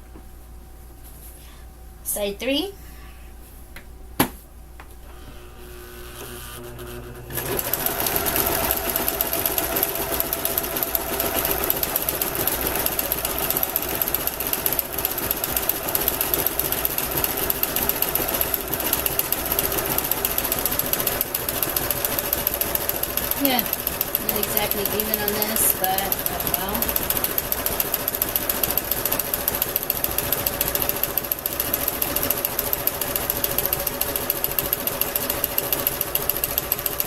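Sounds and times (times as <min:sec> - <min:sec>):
sewing machine sewing: 0:05.8 - 0:37.0.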